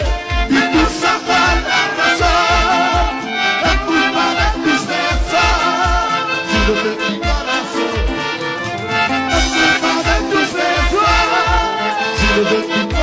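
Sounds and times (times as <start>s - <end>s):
bass drum beat: 0.0s - 13.0s
upbeat folk band music: 0.0s - 13.0s.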